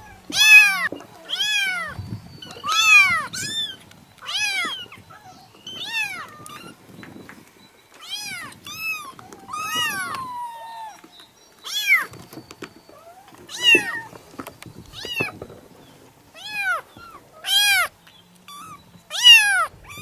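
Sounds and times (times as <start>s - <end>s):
kittens meowing: 0.0s - 7.3s, 8.0s - 12.2s, 12.8s - 15.6s, 16.3s - 20.0s.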